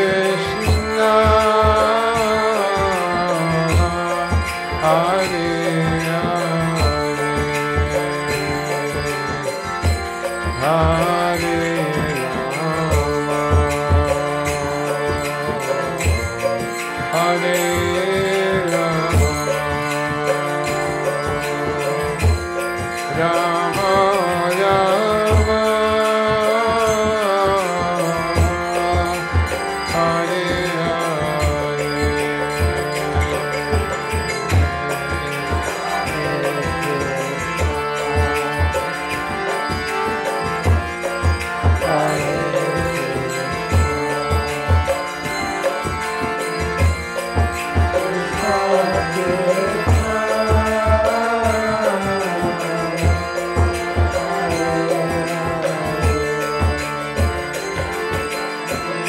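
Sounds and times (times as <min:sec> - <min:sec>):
hand drum beating: 0:00.0 - 0:58.4
held harmonium tones: 0:00.0 - 0:59.0.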